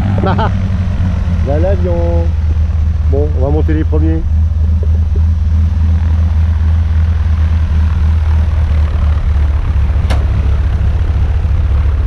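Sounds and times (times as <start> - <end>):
propeller plane engine idling: 0.0 - 12.0.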